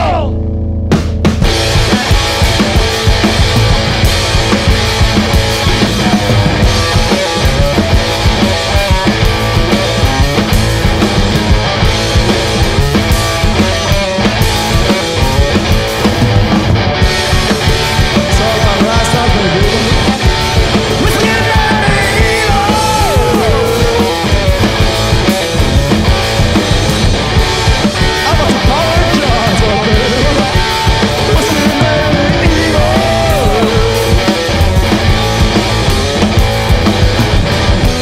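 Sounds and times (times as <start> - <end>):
distorted electric guitar: 0.0 - 38.0
drums: 0.0 - 38.0
pitch-bending guitar lead line: 0.0 - 38.0.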